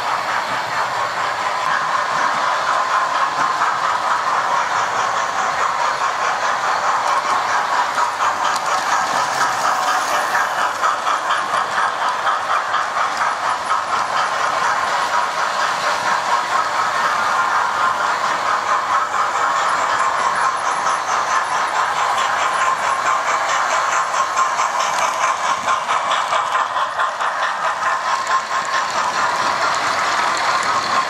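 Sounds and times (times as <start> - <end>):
model train motor whirring: 0.0 - 31.0
wheels ticking over track: 0.0 - 31.0.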